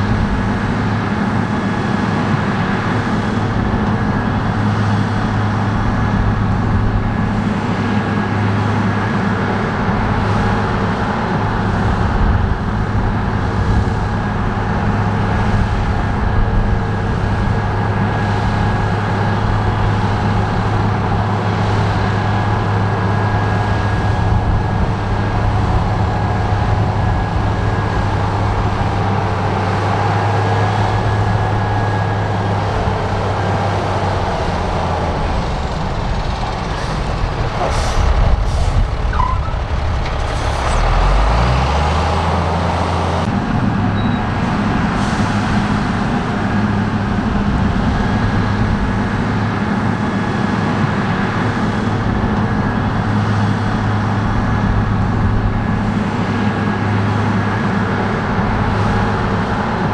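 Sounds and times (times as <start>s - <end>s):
heavy diesel machine engine: 0.0s - 59.9s.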